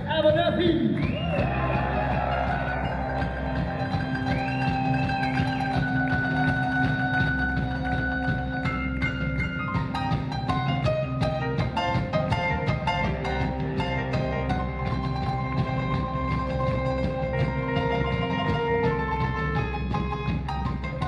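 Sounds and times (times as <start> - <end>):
live rock band playing: 1.2 - 21.0
electric keyboard solo: 1.8 - 21.0.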